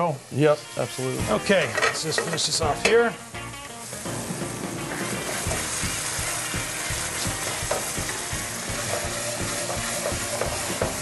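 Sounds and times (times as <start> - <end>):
sauce sizzling in a hot pan: 0.0 - 11.0.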